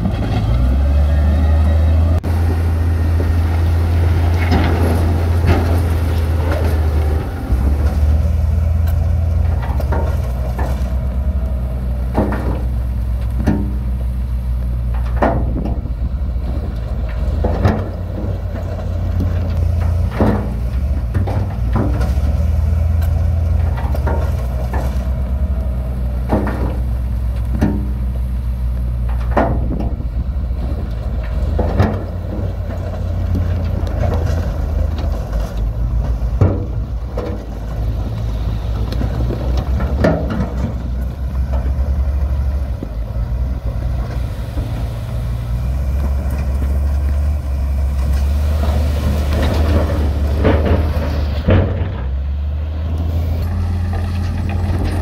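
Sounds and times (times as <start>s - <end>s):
diesel construction machinery drone: 0.0s - 55.0s
sharp knocks and clanks: 2.2s - 14.1s, 14.8s - 25.3s, 26.2s - 28.2s, 29.0s - 43.0s, 43.7s - 52.4s.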